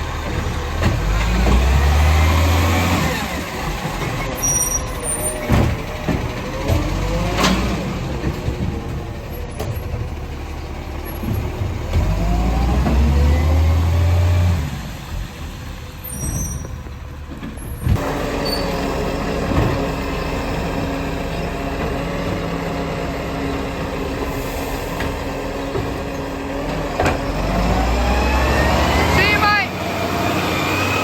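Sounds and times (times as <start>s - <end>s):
garbage truck engine running: 0.0s - 31.0s.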